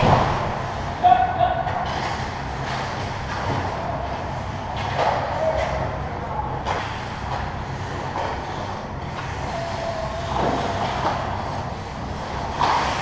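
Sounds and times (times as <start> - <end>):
low arena hum: 0.0 - 13.0
skates scraping ice: 0.0 - 13.0.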